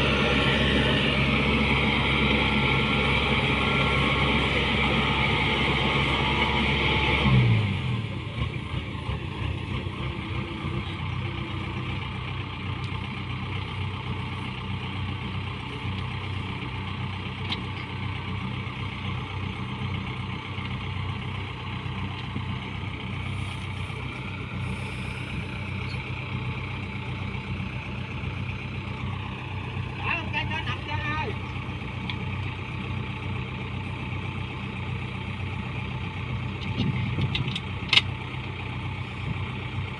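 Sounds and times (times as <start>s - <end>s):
farm machine engine droning: 0.0s - 39.9s.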